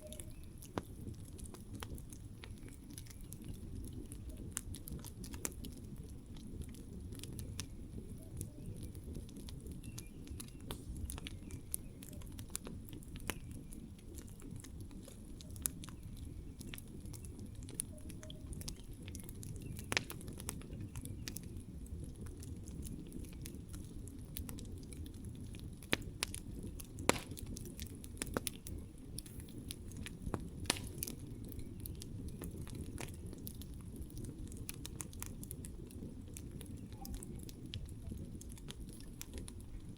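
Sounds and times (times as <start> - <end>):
burning wood crackling and popping: 0.0 - 39.9
low rumble of flames: 0.0 - 39.9.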